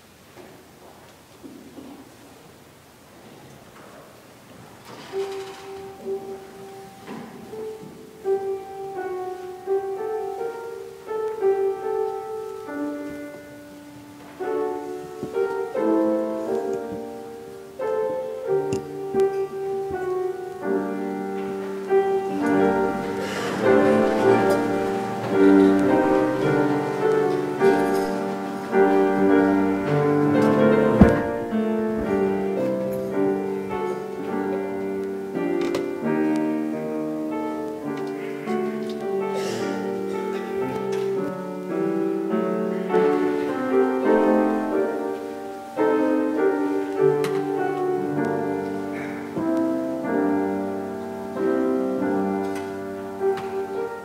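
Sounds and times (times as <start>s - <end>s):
slow keyboard music: 5.1s - 54.0s.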